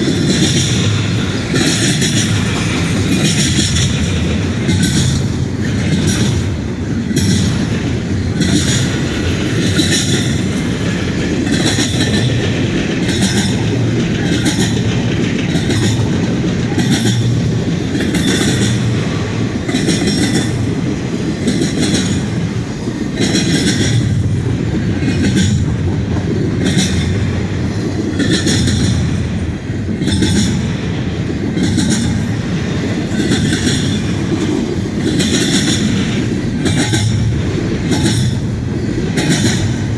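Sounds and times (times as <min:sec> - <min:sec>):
freight train rumbling: 0:00.0 - 0:39.9
wheels clacking over rail joints: 0:00.0 - 0:39.9.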